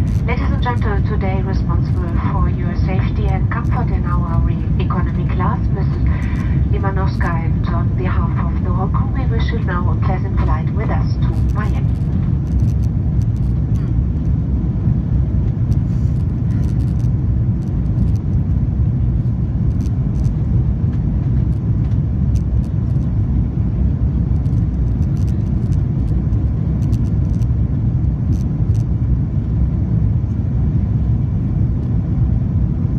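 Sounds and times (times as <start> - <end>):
jet engine and airflow rumble: 0.0 - 32.9.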